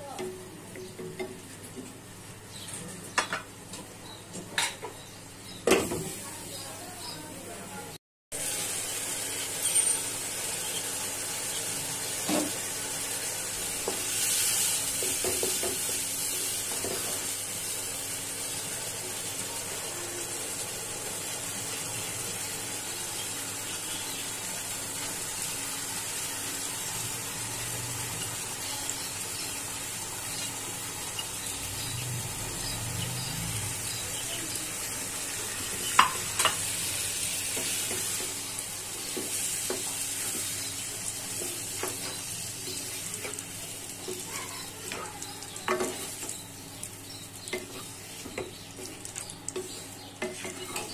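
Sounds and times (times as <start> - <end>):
onions sizzling in oil: 8.3 - 50.9.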